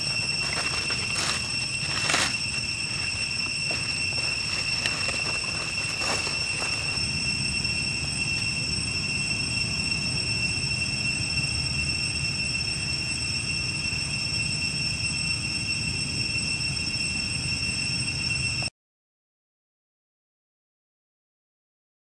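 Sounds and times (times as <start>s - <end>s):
high-pitched insect drone: 0.0s - 18.7s.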